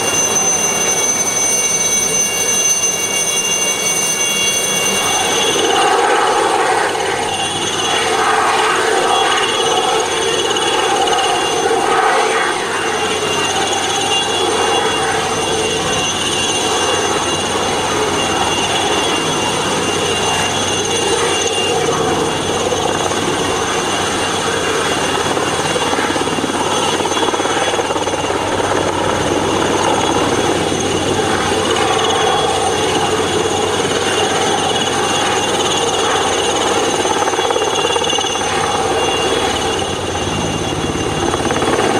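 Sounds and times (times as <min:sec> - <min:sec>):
helicopter rotor noise: 0:00.0 - 0:41.9
high whine: 0:00.0 - 0:41.9.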